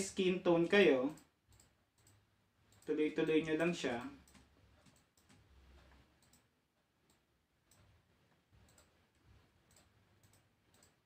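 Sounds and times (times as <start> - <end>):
computer mouse clicks: 1.0 - 11.0.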